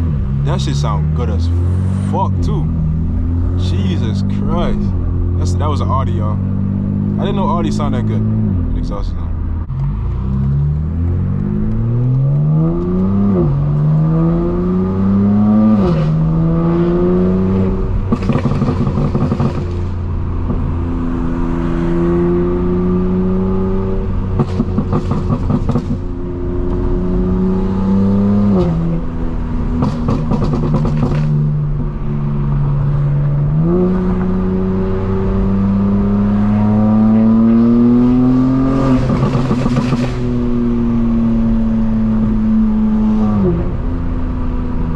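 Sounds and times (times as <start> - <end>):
car engine accelerating through gears: 0.0 - 44.9
exhaust crackling: 0.0 - 44.9.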